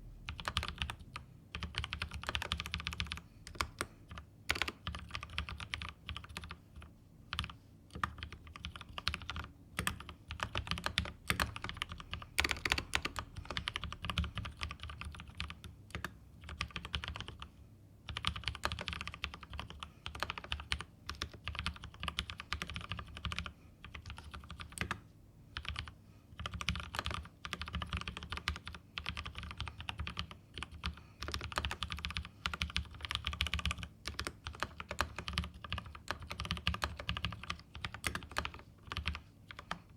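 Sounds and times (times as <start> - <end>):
typing on mechanical keyboard: 0.3 - 17.5, 18.1 - 25.0, 25.6 - 39.9.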